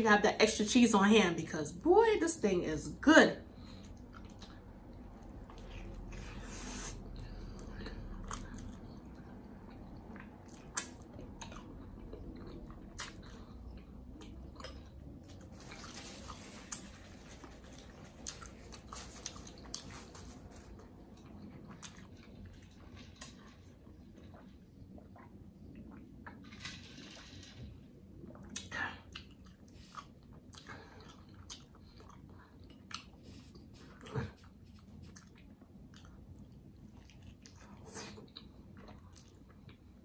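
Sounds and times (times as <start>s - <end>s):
person chewing food: 3.8s - 26.4s, 28.3s - 40.0s.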